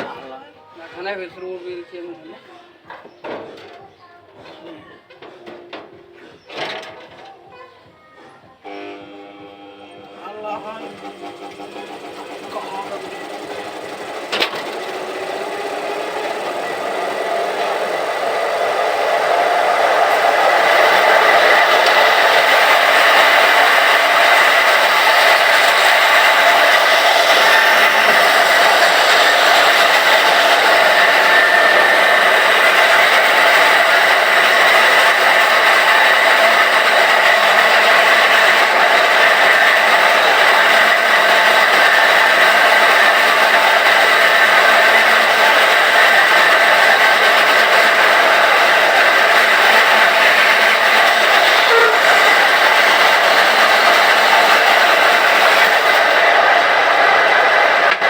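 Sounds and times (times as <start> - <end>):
power tool motor whining: 8.7 - 58.0.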